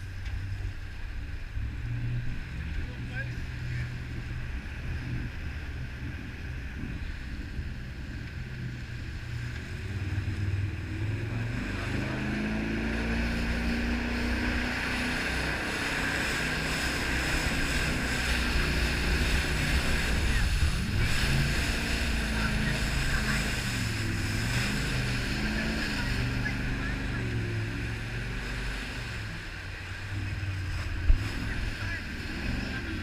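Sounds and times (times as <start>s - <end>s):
jet boat engine running: 0.0s - 33.0s
rushing water: 0.0s - 33.0s
wind: 0.0s - 33.0s.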